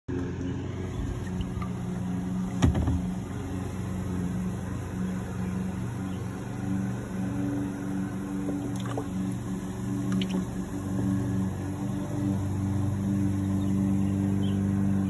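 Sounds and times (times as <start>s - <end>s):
motor humming: 0.1s - 15.0s.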